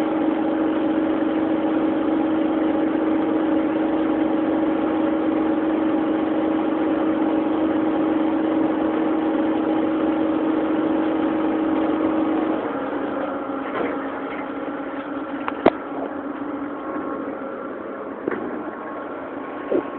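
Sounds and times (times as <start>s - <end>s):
lathe machine hum: 0.0s - 19.9s.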